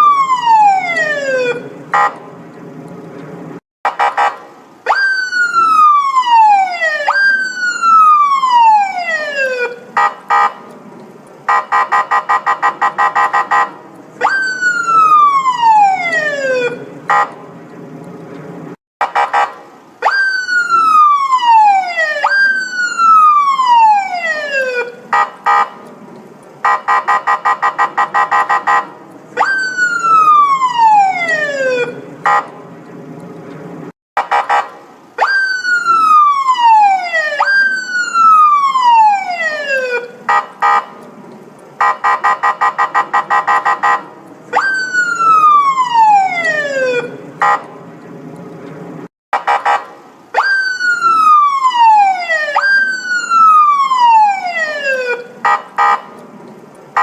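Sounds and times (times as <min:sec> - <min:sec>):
police car siren: 0:00.0 - 0:02.2, 0:03.9 - 0:10.7, 0:11.5 - 0:17.4, 0:19.0 - 0:25.9, 0:26.6 - 0:32.6, 0:34.2 - 0:41.0, 0:41.8 - 0:47.8, 0:49.4 - 0:56.2.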